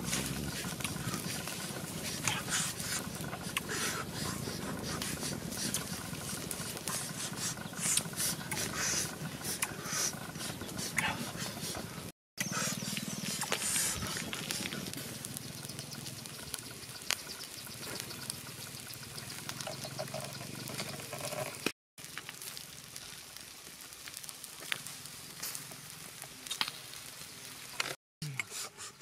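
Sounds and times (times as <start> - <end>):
food crackling and sizzling: 0.0 - 10.7, 13.0 - 28.9.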